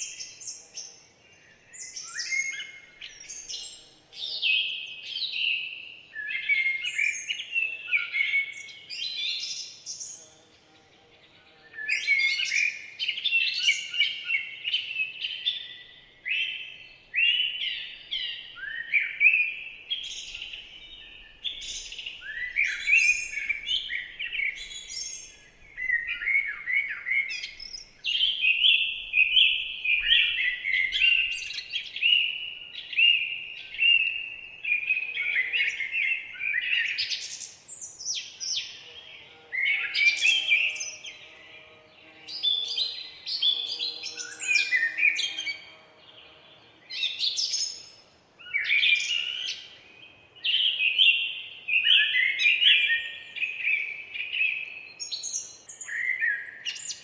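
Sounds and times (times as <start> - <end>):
songbirds chirping and warbling: 0.0 - 57.0.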